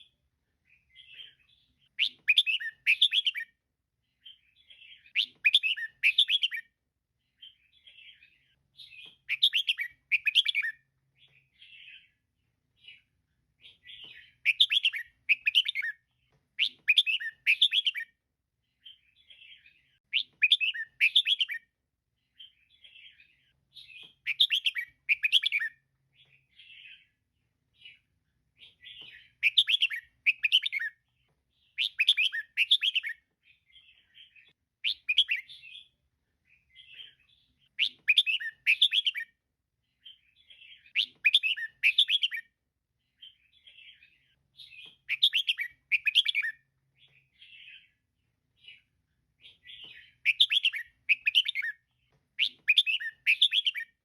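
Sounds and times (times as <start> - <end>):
soft bird chirps: 0.0 - 54.0.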